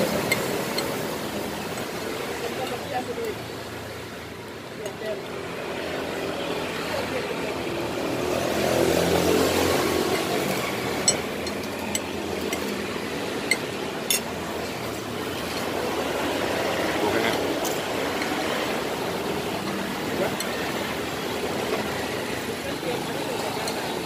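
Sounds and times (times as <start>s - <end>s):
street traffic hum: 0.0s - 24.0s.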